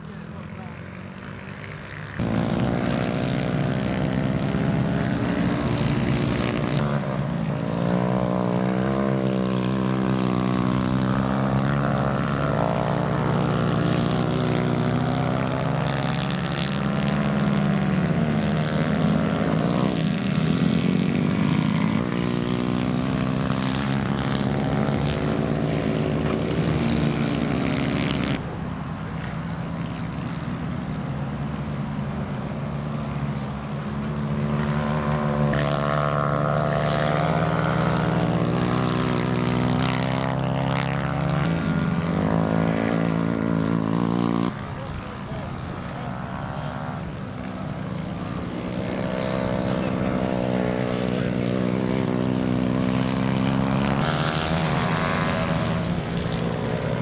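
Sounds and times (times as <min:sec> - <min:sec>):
racing kart engines: 0:00.0 - 0:57.0.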